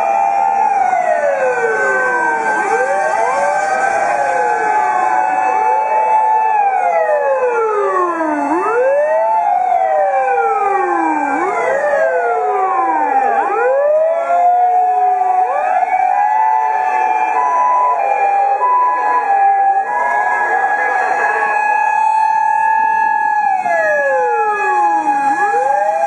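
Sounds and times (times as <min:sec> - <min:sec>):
wailing emergency sirens: 0:00.0 - 0:26.0.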